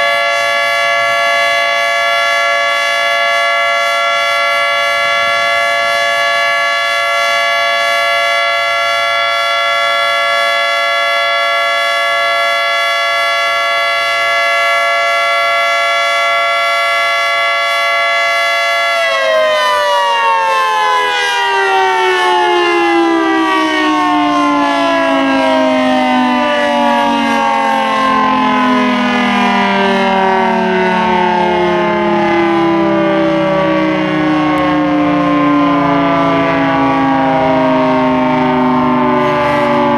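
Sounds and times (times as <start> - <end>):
warning siren winding down: 0.0 - 39.9.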